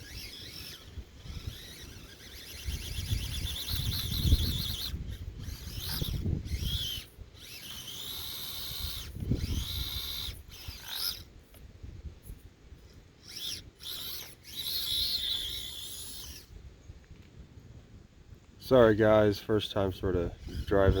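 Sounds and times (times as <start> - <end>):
small electric motor whining: 0.0 - 17.0, 19.6 - 21.0.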